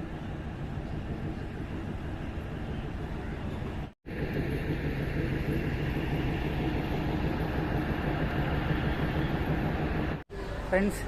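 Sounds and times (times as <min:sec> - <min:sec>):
train diesel engine idling: 0:00.0 - 0:11.0.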